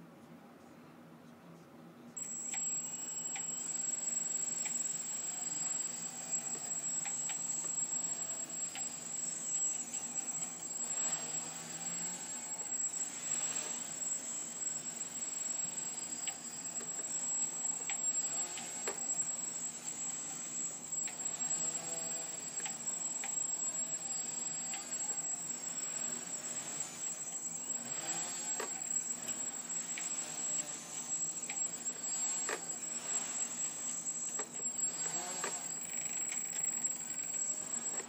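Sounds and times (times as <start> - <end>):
quadcopter motors buzzing: 2.2 - 38.0
thin high tone: 2.2 - 38.0.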